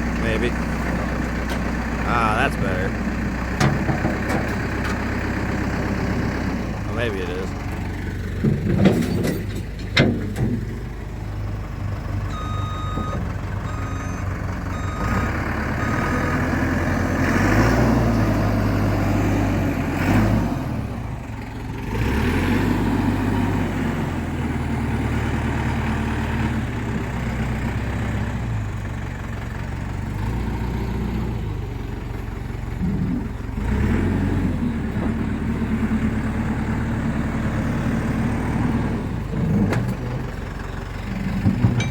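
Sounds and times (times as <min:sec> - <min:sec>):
diesel engine working under load: 0:00.0 - 0:41.9.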